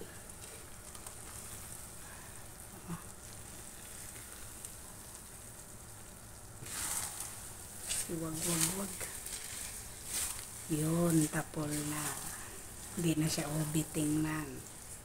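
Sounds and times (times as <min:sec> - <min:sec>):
food sizzling in a frying pan: 0:00.0 - 0:15.0
spatula stirring in a pan: 0:00.0 - 0:15.0.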